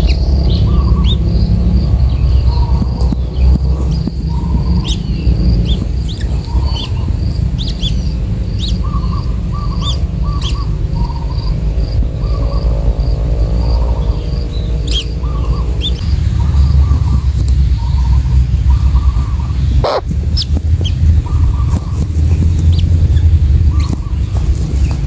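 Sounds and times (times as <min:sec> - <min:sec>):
birds chirping: 0:00.0 - 0:25.0
high insect drone: 0:00.0 - 0:25.0
low rumble: 0:00.0 - 0:25.0.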